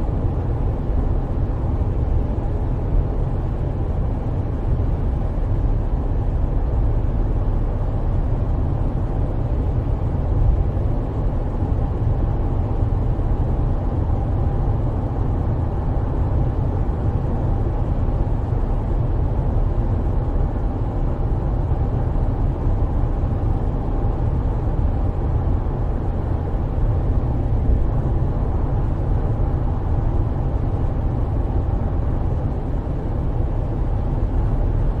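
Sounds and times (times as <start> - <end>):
coach engine and road rumble: 0.0 - 35.0.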